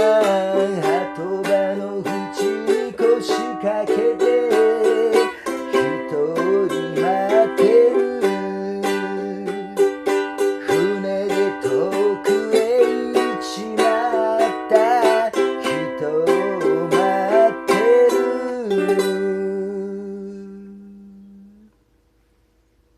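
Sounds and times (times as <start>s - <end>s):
ukulele strummed chords: 0.0s - 21.7s
person singing: 0.0s - 21.8s.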